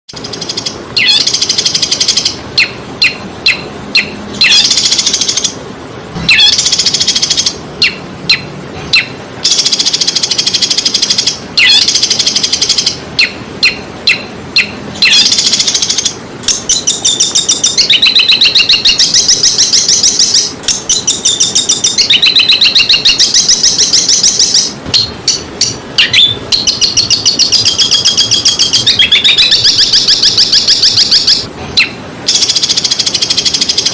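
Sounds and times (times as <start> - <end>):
songbird chips and trills: 6.3 - 33.9.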